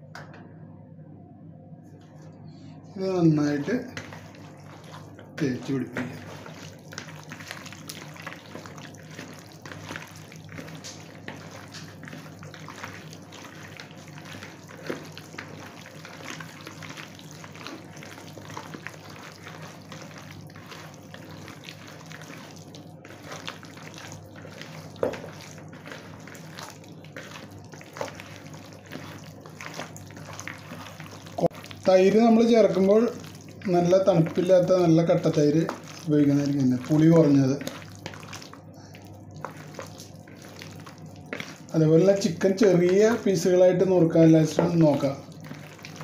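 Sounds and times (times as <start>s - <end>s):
low steady hum: 0.0s - 46.0s
hand squelching raw chicken: 3.4s - 43.8s, 44.5s - 46.0s.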